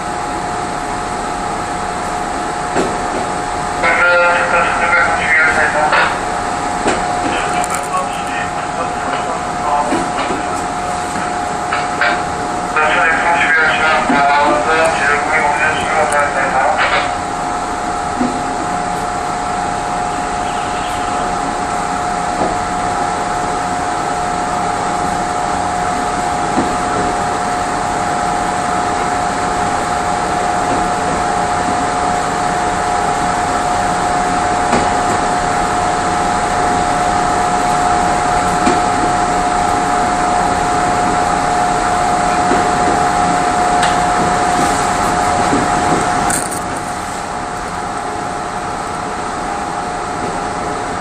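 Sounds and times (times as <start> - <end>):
steady whine: 0.0 - 51.0
train wheels rumbling on rail: 0.0 - 51.0.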